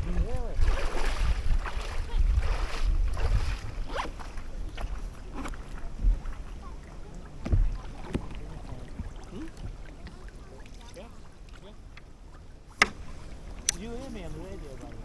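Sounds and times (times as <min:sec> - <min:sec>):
paddle splashing water: 0:00.0 - 0:15.0
wind buffeting microphone: 0:00.0 - 0:15.0.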